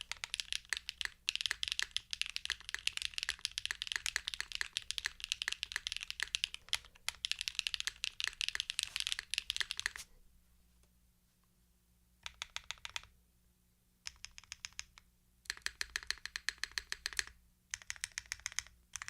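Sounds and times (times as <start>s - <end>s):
mechanical keyboard typing: 0.0s - 10.0s, 12.2s - 13.1s, 14.0s - 19.0s.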